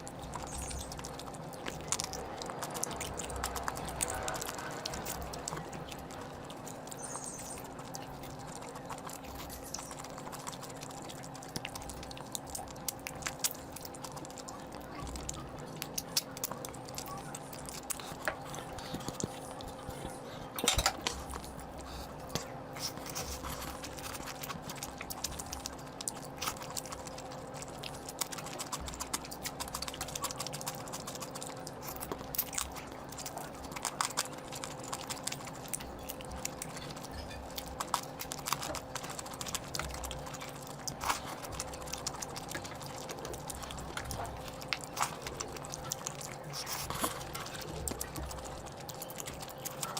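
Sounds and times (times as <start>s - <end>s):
faint steady hum: 0.0s - 49.9s
person chewing food: 0.0s - 49.9s.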